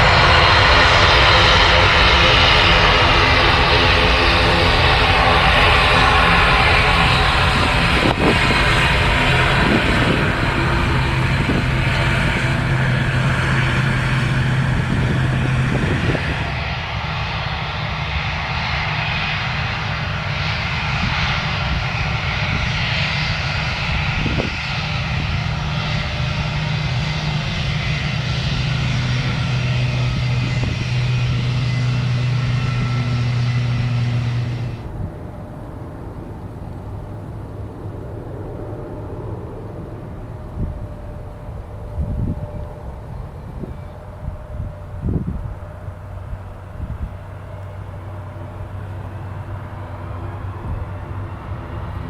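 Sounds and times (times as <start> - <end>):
jet engines humming: 0.0 - 52.0.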